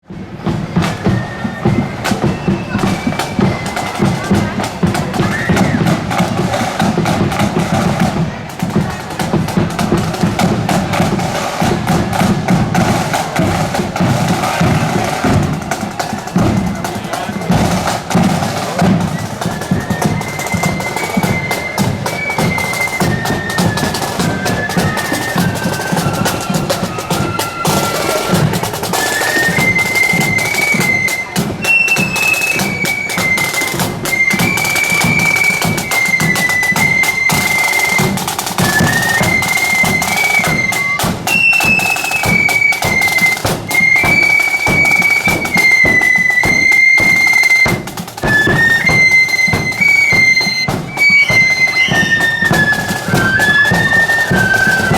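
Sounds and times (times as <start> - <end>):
snare drumming: 0.1 - 54.9
flutes playing melody: 0.2 - 54.9.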